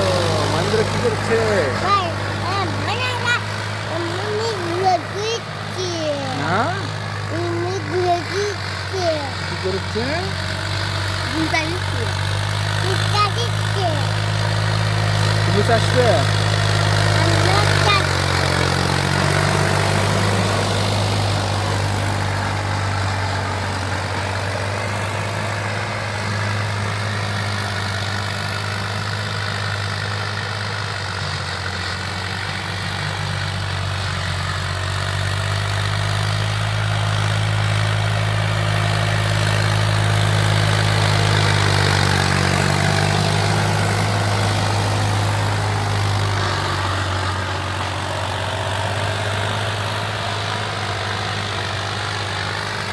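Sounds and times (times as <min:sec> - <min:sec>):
tractor diesel engine droning: 0:00.0 - 0:52.9.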